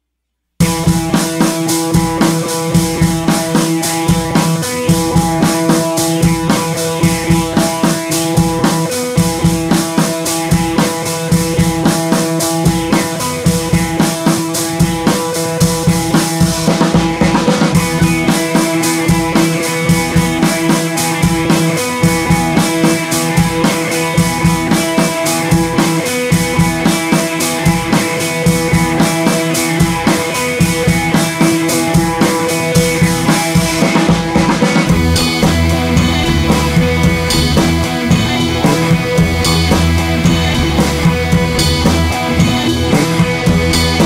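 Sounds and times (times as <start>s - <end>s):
drum-kit beat: 0.6s - 44.0s.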